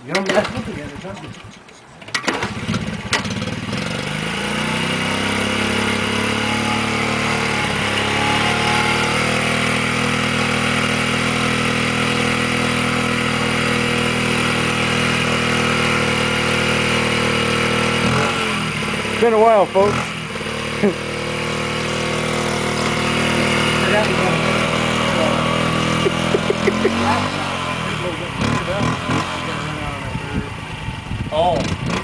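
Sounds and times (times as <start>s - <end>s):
motorcycle engine idling: 2.5s - 4.1s, 5.6s - 32.0s.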